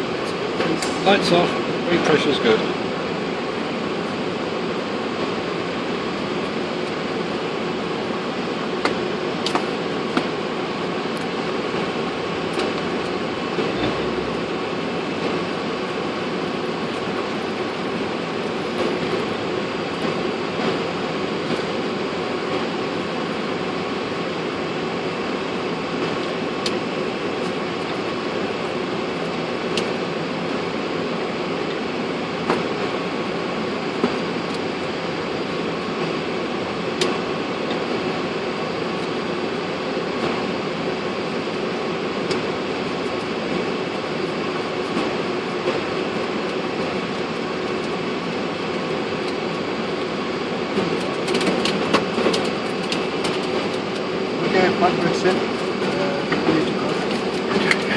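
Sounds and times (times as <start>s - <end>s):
air-conditioning and fan noise: 0.0s - 57.9s.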